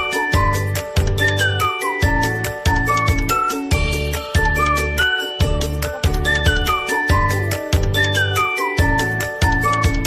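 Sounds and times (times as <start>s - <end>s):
chiming tune over a bass line: 0.0s - 10.0s.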